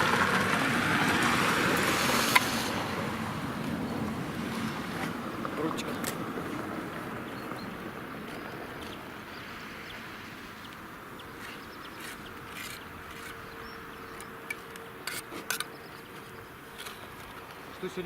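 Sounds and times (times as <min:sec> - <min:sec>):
distant road traffic hiss: 0:00.0 - 0:18.0.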